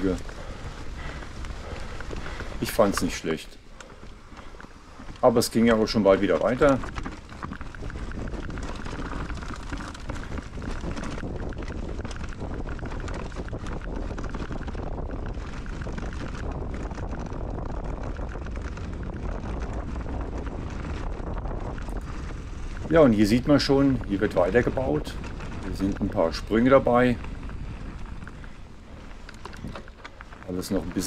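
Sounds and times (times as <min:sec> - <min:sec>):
bike rattling and clicking: 0:00.0 - 0:31.0
wind rushing over microphone: 0:00.0 - 0:31.0.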